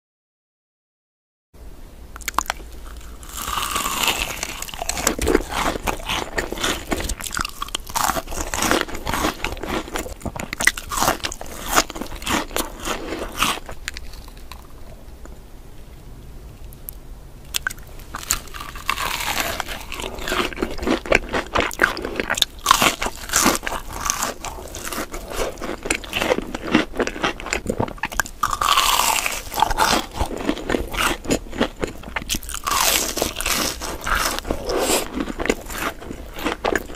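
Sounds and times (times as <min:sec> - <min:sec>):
crunchy biting and chewing: 0:02.2 - 0:15.0, 0:16.6 - 0:36.9.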